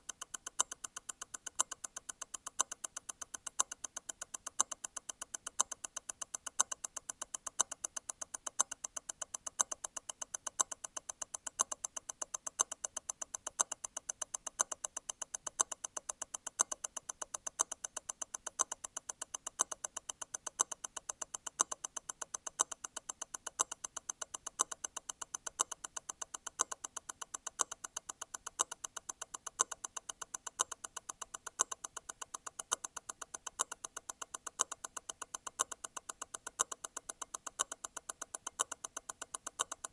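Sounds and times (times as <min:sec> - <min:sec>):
watch ticking rapidly: 0:00.0 - 0:39.9.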